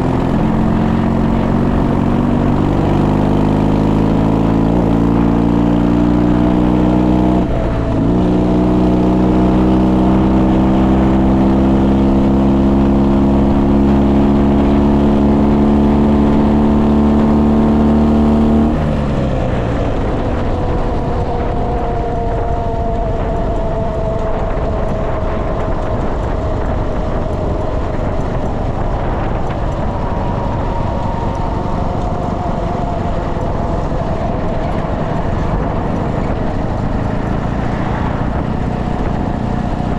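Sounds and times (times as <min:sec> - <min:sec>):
motorcycle engine under way: 0:00.0 - 0:39.9
road noise: 0:00.0 - 0:39.9
wind noise: 0:00.0 - 0:39.9.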